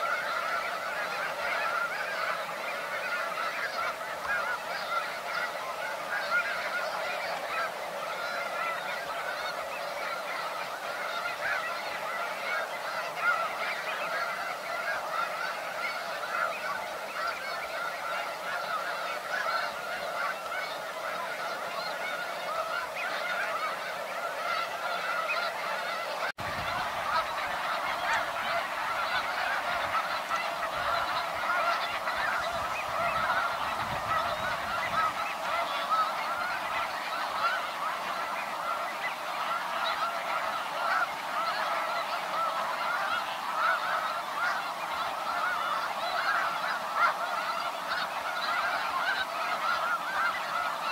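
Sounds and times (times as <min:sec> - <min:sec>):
flock of geese honking: 0:00.0 - 0:50.9.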